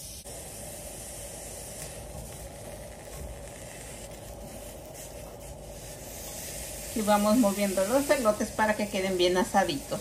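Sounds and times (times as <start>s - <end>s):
corn sizzling on griddle: 0.0s - 10.0s.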